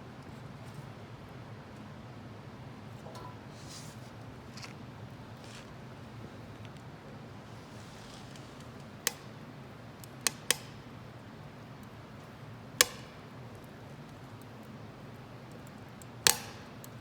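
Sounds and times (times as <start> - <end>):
wood fire burning: 2.7 - 17.0
burning wood crackles: 2.8 - 17.0.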